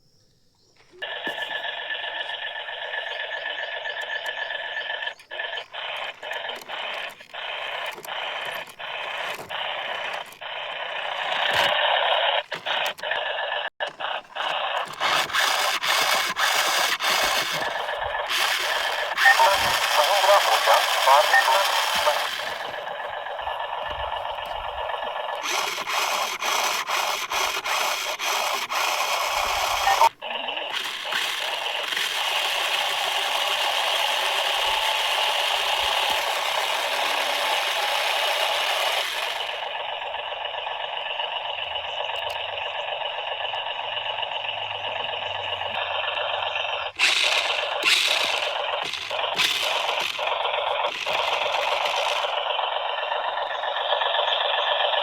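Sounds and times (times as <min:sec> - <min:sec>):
quick run of clicks: 0:00.8 - 0:55.0
toy construction vehicles rattling: 0:00.8 - 0:55.0.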